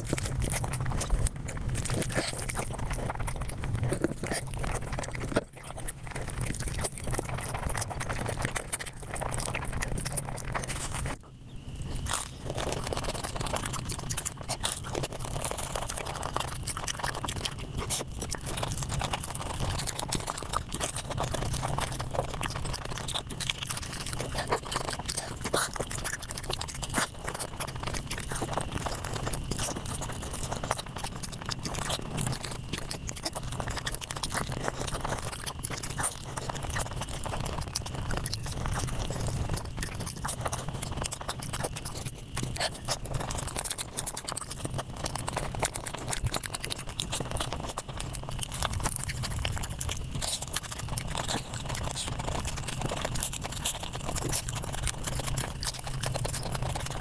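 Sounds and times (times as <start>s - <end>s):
sped-up chewing and crunching: 0.0s - 57.0s.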